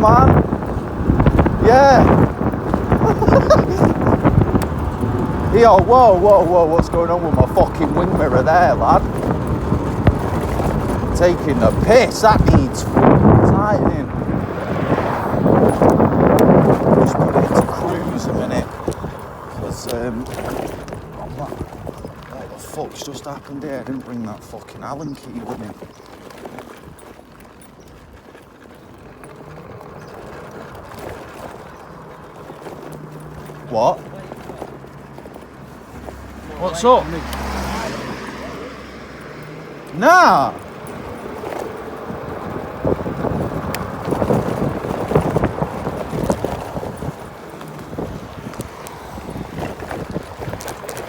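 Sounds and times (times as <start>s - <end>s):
wind on microphone: 0.0s - 23.0s, 27.8s - 51.0s
scooter knocks and rattles: 0.0s - 51.0s
tyres rumbling: 0.0s - 51.0s.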